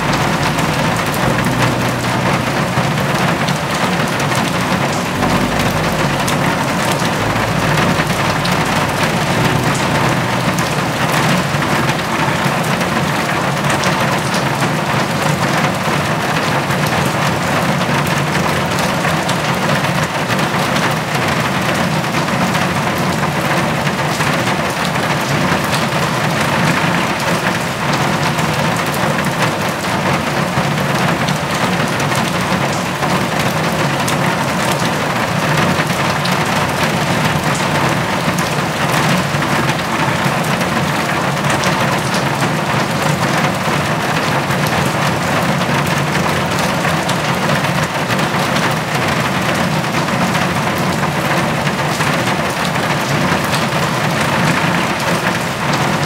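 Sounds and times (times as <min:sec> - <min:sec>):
rain on brick paving: 0:00.0 - 0:56.0.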